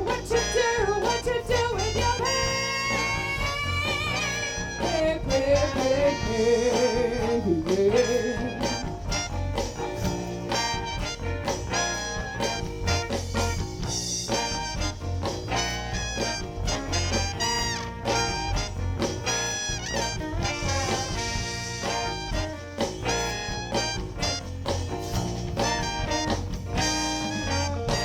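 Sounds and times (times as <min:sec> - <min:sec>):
horn section: 0:00.0 - 0:28.0
live soul band playing: 0:00.0 - 0:28.0.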